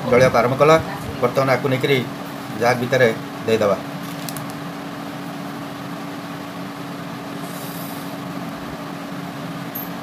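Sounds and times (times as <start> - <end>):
low hum with hiss: 0.0 - 10.0.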